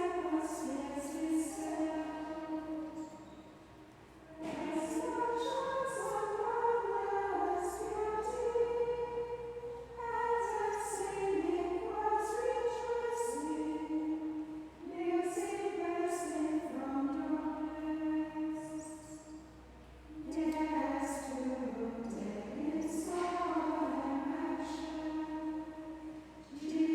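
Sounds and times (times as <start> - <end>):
choir of nuns chanting: 0.0 - 3.4, 4.3 - 19.4, 20.1 - 26.9.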